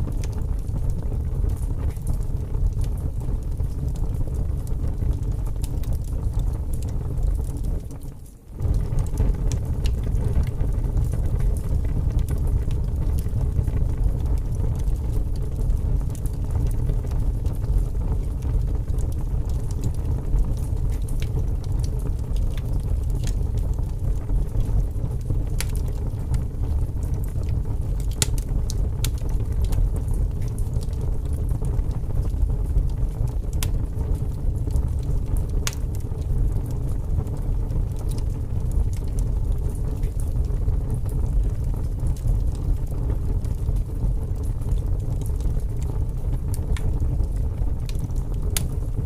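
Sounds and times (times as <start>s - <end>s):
fire crackles and pops: 0.0s - 49.0s
wood fire rumbling: 0.0s - 49.0s.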